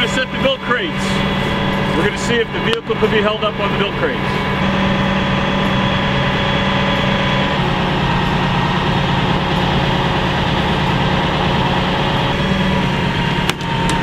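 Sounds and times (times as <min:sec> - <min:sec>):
engine idling: 0:00.0 - 0:14.0
high whine: 0:00.0 - 0:14.0.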